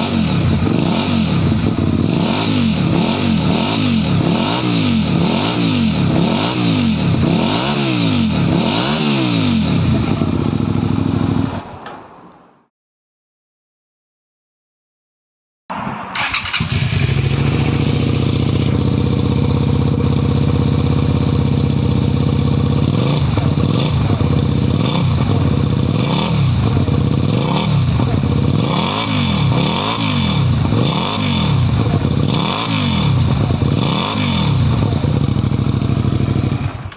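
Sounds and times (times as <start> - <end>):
motorcycle engine idling and revving: 0.0 - 11.7, 16.2 - 36.9.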